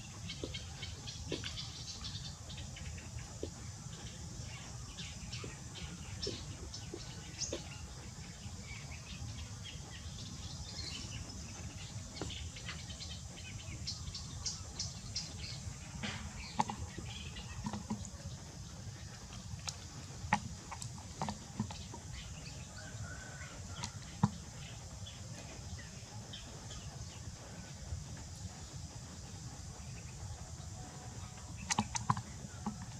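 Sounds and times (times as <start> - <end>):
bird chirps: 0.0 - 27.7
insect noise: 0.0 - 32.9
steady low hum: 0.0 - 32.9.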